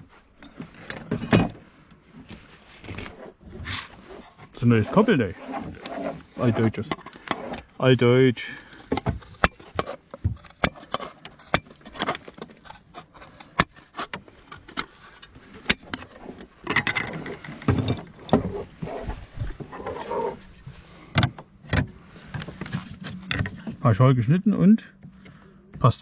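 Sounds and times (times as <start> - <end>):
slate scraping: 2.3 - 23.9.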